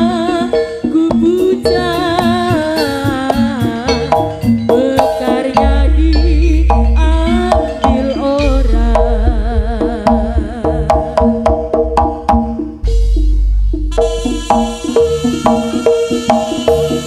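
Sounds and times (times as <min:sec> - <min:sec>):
hand drums: 0:00.0 - 0:17.0
vibrato melody: 0:00.0 - 0:17.0.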